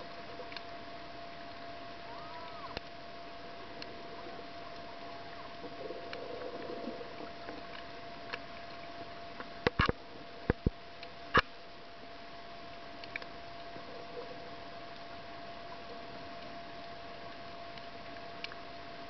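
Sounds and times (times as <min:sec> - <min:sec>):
faint constant hum: 0:00.0 - 0:19.0
soft water burbling: 0:00.0 - 0:19.0.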